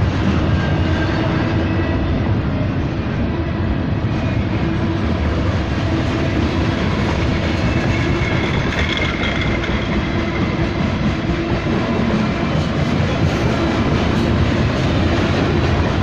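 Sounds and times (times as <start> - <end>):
freight train cars rolling past: 0.0 - 16.0.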